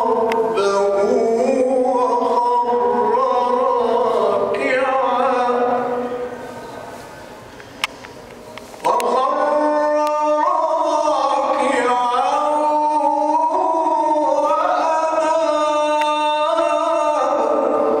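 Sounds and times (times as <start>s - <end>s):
man chanting melodically: 0.0s - 6.9s, 8.8s - 18.0s.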